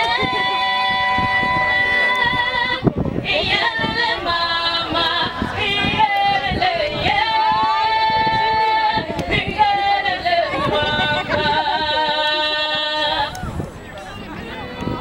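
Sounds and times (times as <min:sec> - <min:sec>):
group singing: 0:00.0 - 0:13.5.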